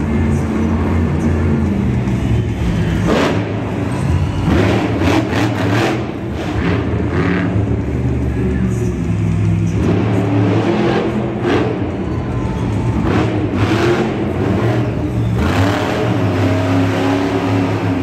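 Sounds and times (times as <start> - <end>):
truck engine revving loudly: 0.0 - 12.2, 12.9 - 18.0.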